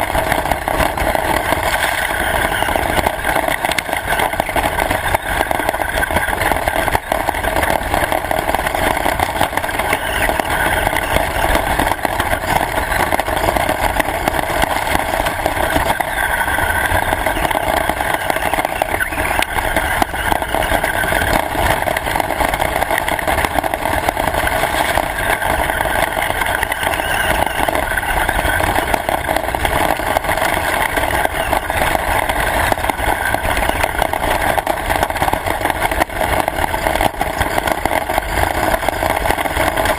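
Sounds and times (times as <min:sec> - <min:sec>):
radio-controlled car motor: 0:00.0 - 0:39.9.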